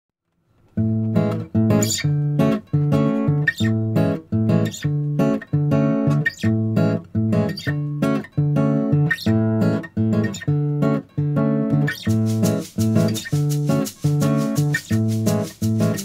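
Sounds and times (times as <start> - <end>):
bossa nova acoustic guitar chords: 0.7 - 16.0.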